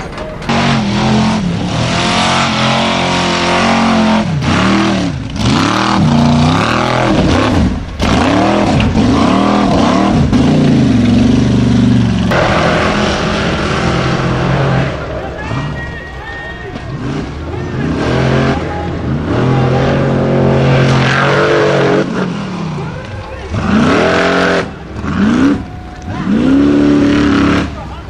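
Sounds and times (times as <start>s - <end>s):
buggy engine revving: 0.0s - 28.0s.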